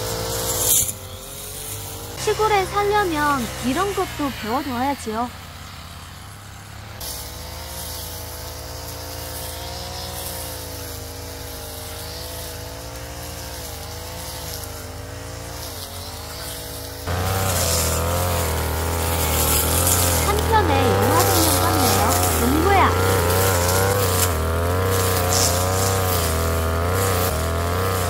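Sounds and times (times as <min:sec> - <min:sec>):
brush cutter engine running: 0:00.0 - 0:28.0.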